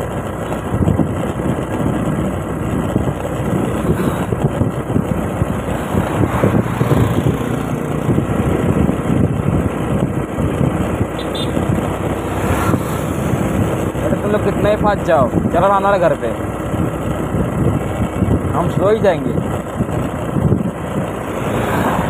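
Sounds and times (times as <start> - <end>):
road noise: 0.0 - 22.0
scooter engine: 0.0 - 22.0
wind buffeting microphone: 0.0 - 22.0.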